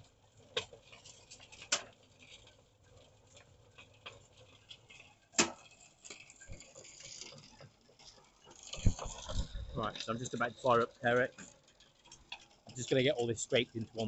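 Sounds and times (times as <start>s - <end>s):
faint light clicks and patter: 0.0s - 14.0s.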